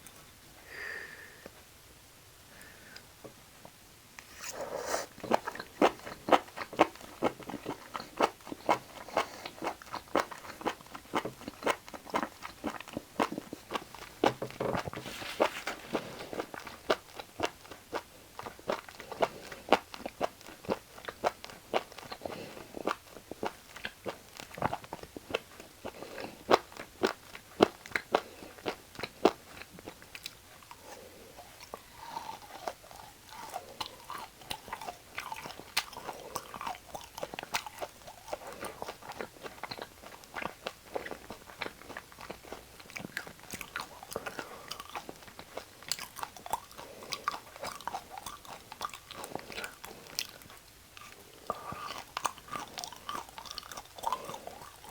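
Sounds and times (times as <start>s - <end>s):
chewing with wet mouth sounds: 5.1s - 54.9s.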